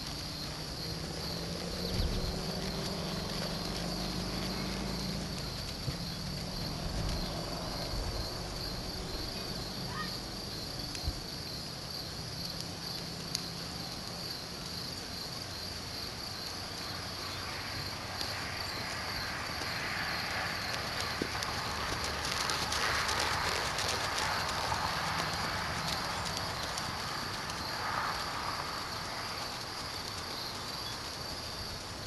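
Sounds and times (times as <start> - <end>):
crickets chirping: 0.0 - 32.0
outdoor background hiss: 0.0 - 32.0.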